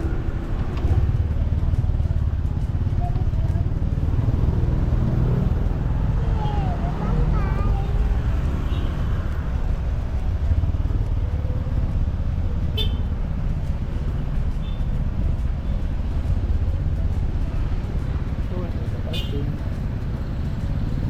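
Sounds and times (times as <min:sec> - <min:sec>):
vehicle rumble on road: 0:00.0 - 0:21.0.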